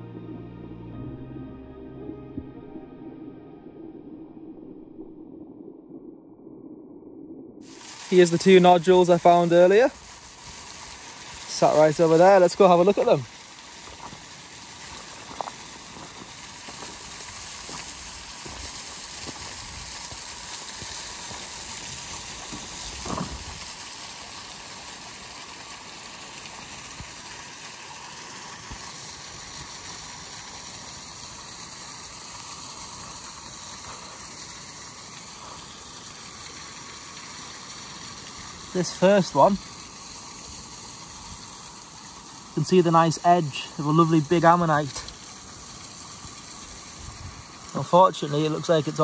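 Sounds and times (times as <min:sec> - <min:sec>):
water rushing on a beach: 0:07.6 - 0:49.0.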